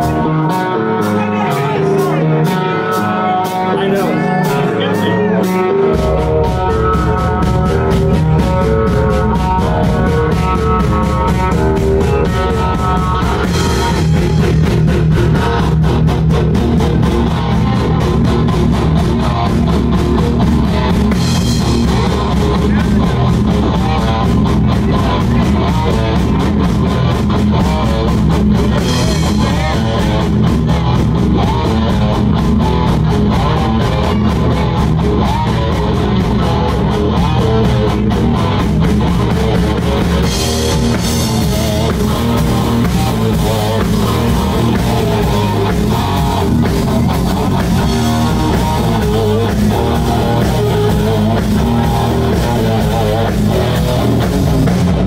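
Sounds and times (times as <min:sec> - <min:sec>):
distorted electric guitars: 0:00.0 - 0:55.0
drum kit: 0:00.0 - 0:55.0.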